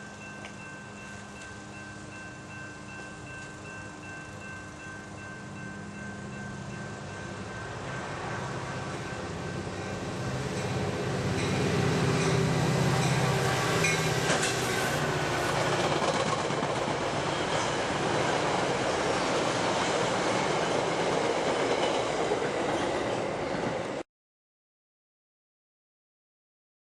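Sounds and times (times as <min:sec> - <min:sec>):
diesel train engine: 0:00.0 - 0:24.0
train wheels rolling on rail: 0:00.2 - 0:24.0.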